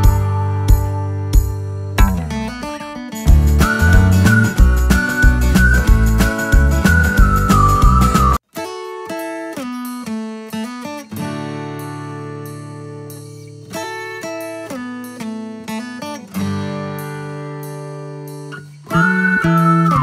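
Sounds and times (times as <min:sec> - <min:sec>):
plucked acoustic guitar: 0:00.0 - 0:20.0.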